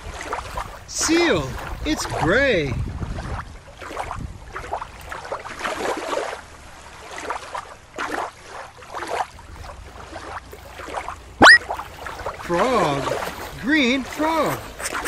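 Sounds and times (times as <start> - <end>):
surf washing and splashing: 0.0 - 15.0.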